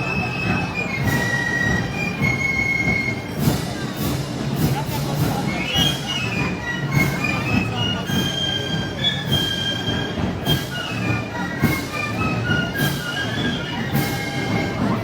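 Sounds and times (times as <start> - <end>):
crowd noise: 0.0 - 15.0
live band music: 0.0 - 15.0.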